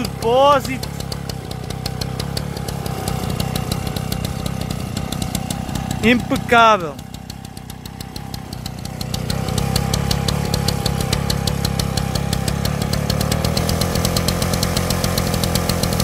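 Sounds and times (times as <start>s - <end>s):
two-stroke pump engine running: 0.0s - 16.0s.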